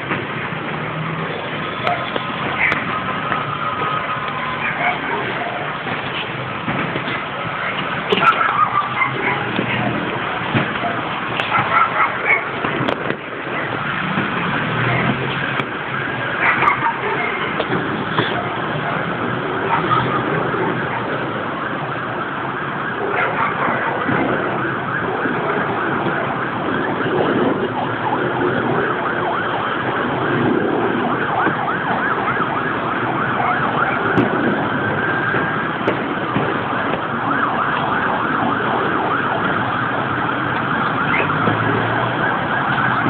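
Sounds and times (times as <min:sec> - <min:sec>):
emergency sirens wailing: 0:00.0 - 0:43.0
street noise: 0:00.0 - 0:43.0.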